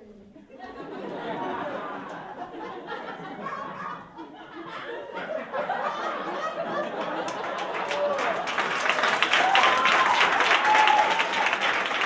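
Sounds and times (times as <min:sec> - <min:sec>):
audience laughing: 0:00.4 - 0:12.0.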